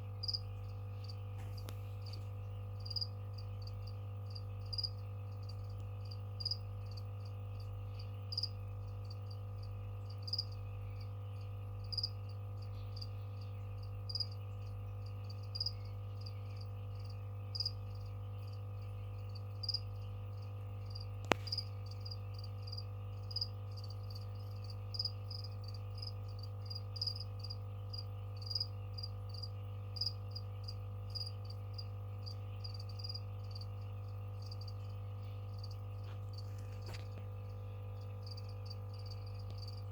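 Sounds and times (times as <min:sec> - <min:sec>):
crickets chirping: 0:00.0 - 0:39.9
low electrical hum: 0:00.0 - 0:39.9.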